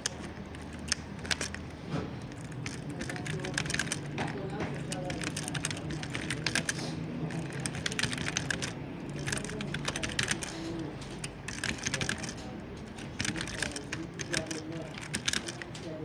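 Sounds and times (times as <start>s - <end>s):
typing on computer keyboard: 0.0s - 16.0s.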